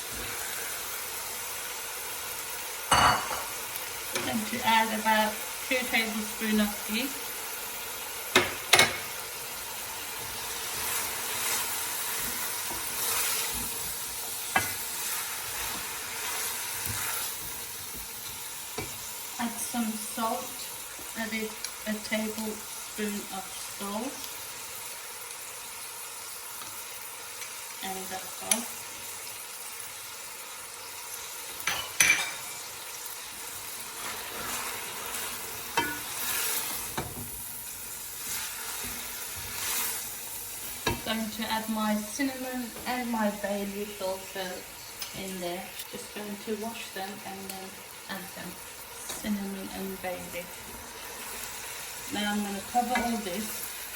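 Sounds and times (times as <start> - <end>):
onions sizzling in a pan: 0.0 - 53.9.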